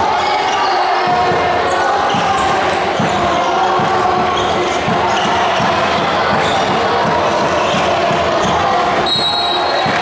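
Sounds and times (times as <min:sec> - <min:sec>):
crowd voices din: 0:00.0 - 0:10.0.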